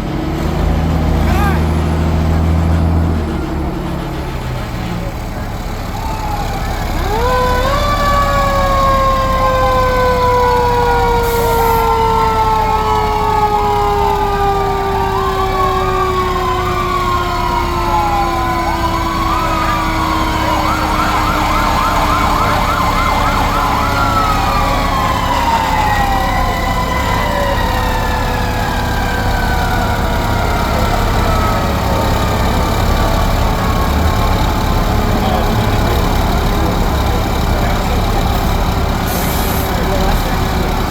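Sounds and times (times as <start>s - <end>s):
fire truck sirens wailing: 0.0s - 40.9s
truck engines rumbling: 0.0s - 40.9s.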